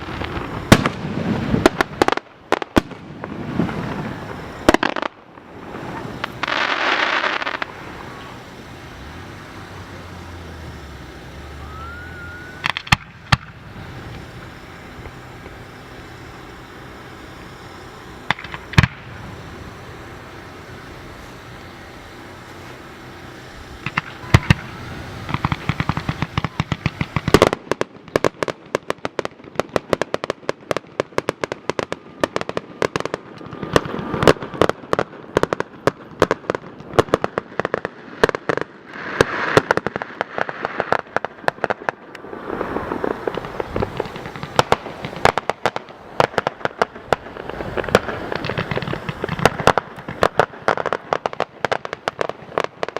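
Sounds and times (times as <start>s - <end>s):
fireworks bangs: 0.0s - 52.9s
fireworks crackling pops: 0.0s - 52.9s.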